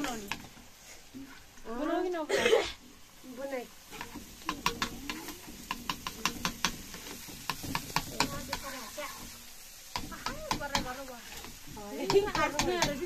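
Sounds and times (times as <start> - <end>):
noodles frying in a wok: 0.0 - 13.0.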